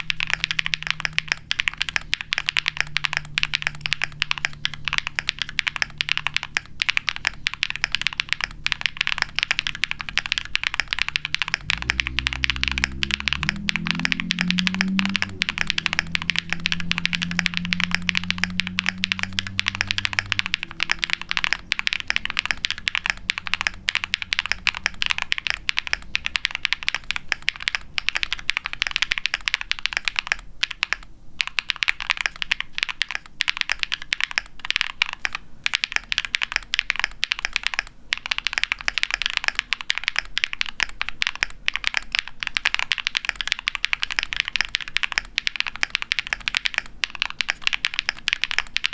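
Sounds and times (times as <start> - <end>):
fast typing on mechanical keyboard: 0.0 - 48.9.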